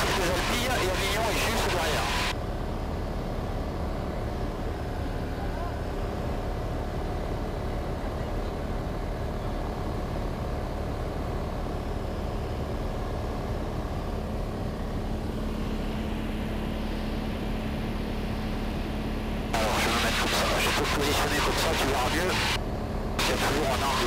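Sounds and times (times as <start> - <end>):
aircraft engine and propeller droning: 0.0 - 24.0.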